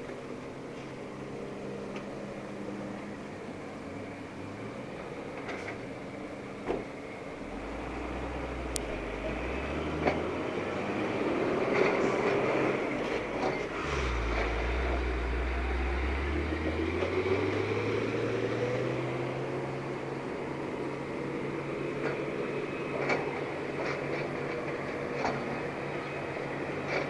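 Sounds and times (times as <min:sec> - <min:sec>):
excavator diesel engine drone: 0:00.0 - 0:27.0
hydraulic whines: 0:02.7 - 0:27.0.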